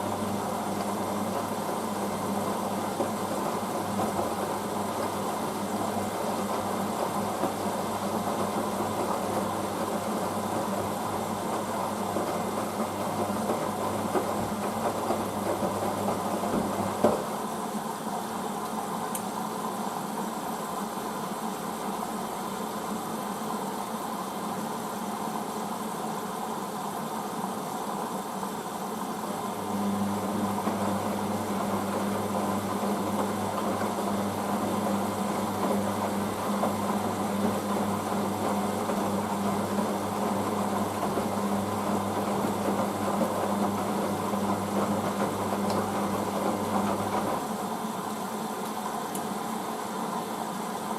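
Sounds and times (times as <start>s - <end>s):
washing machine humming: 0.0s - 50.9s.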